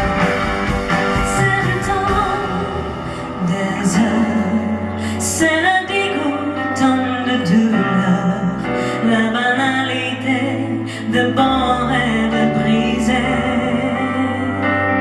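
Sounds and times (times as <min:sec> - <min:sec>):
band playing pop ballad: 0:00.0 - 0:15.0
person singing: 0:00.0 - 0:15.0.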